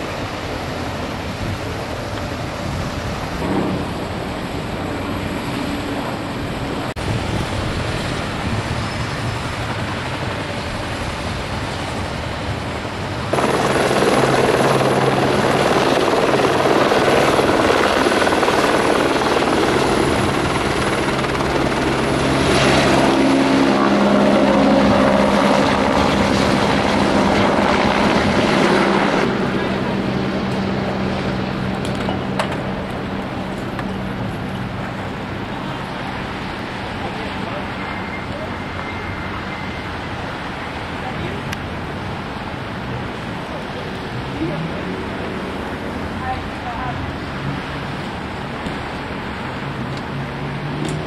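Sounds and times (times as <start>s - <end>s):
helicopter lifting off: 0.0s - 51.0s
helicopter turbine and rotor noise: 0.0s - 51.0s.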